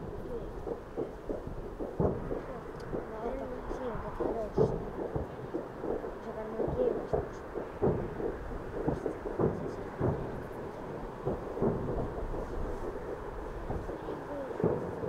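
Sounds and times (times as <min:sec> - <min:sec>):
distant fireworks booms: 0:00.0 - 0:15.0
low rumble: 0:00.0 - 0:15.0.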